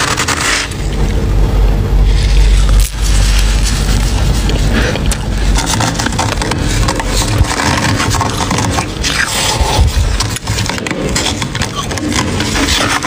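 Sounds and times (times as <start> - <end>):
frost being scraped and crunched: 0.0 - 1.1, 2.0 - 13.0.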